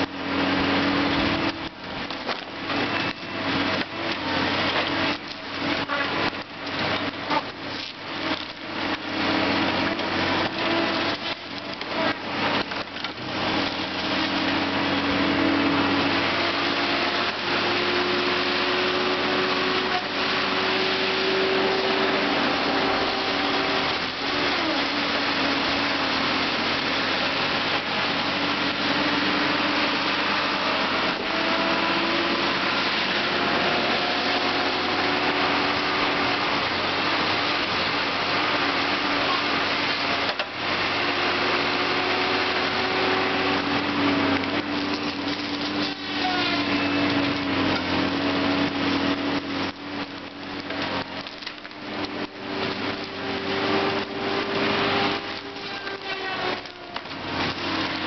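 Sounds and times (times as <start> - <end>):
heavy machine engine and saw noise: 0.0 - 58.0.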